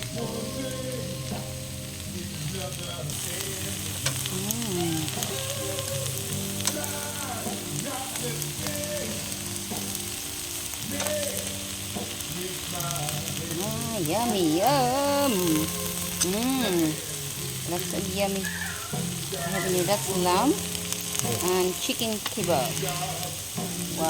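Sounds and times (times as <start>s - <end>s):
meat sizzling on a grill: 0.0s - 24.0s.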